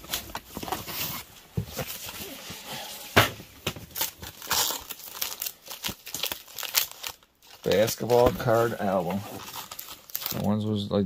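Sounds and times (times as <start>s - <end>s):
papers and packaging rustling: 0.0s - 10.6s.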